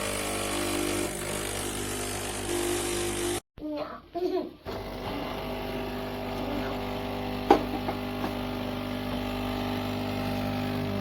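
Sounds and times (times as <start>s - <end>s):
espresso machine pump humming: 0.0s - 3.4s, 4.7s - 11.0s.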